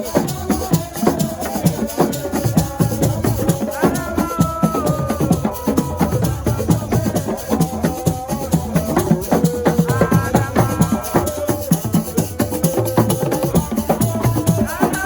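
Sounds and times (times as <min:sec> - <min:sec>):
fast dense drumming: 0:00.0 - 0:15.0
shaker rattle: 0:00.0 - 0:15.0.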